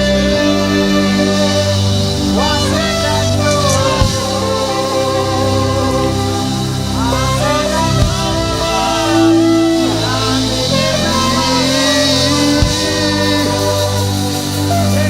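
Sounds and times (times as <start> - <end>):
band holding sustained chords: 0.0 - 15.0
person singing: 0.0 - 15.0.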